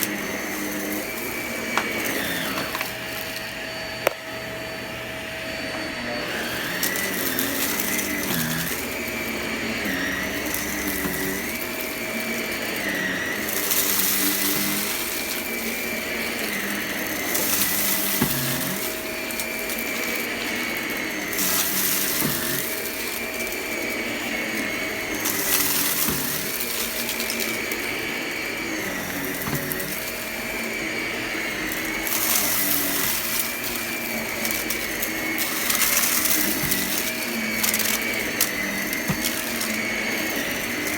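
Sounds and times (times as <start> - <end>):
vacuum cleaner motor whine: 0.0 - 40.9
vacuum sucking up crunchy debris: 0.0 - 40.9.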